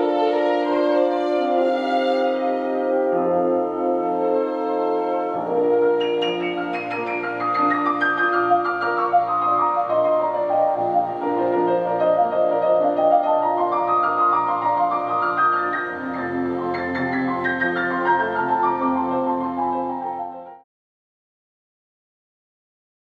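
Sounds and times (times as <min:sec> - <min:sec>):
orchestral chords: 0:00.0 - 0:20.6.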